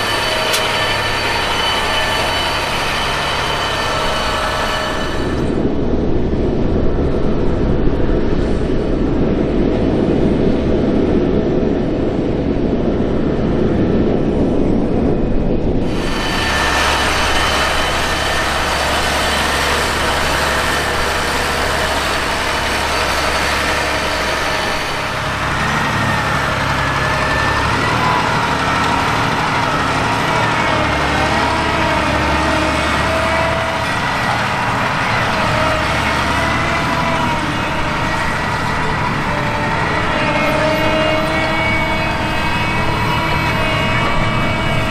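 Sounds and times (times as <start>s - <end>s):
tractor diesel engine under load: 0.0s - 44.9s
wavering whine: 0.0s - 44.9s.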